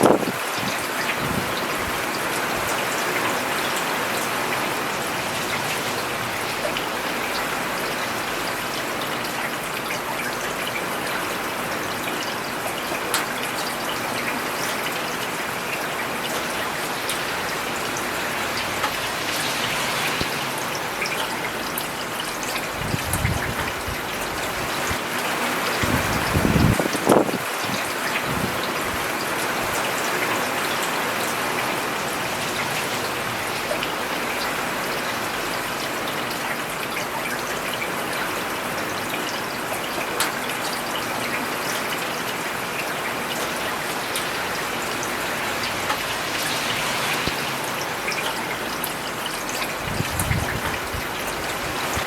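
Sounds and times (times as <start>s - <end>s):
rain falling on a road: 0.0s - 52.0s.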